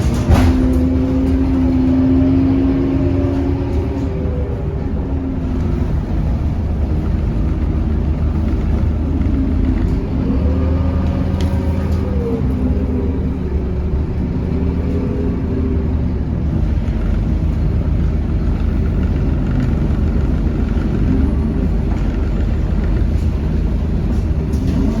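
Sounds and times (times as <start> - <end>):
bus diesel engine drone: 0.0 - 25.0.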